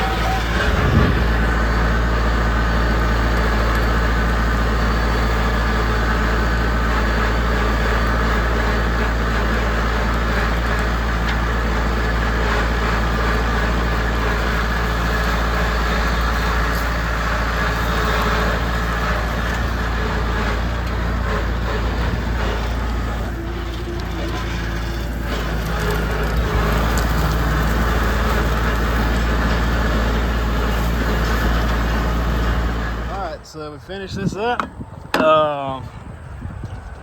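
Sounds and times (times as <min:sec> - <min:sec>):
tractor engine running under load: 0:00.0 - 0:35.2.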